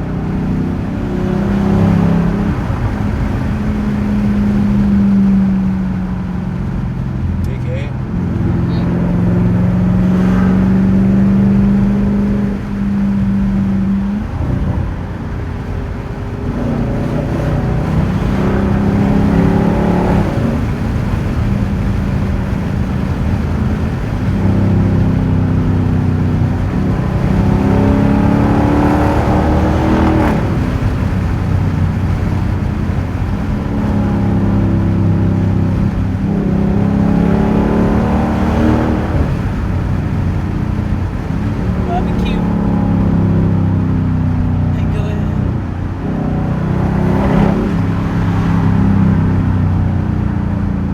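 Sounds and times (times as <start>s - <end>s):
vehicle exhaust droning: 0.0s - 50.9s.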